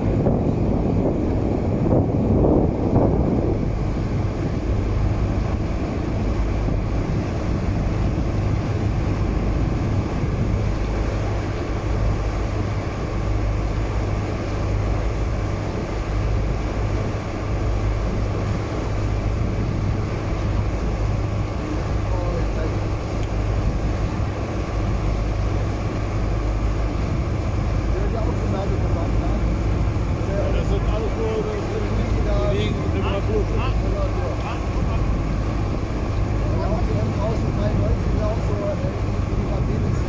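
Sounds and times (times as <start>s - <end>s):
boat engine droning: 0.0s - 40.0s
wind noise on microphone: 0.0s - 40.0s.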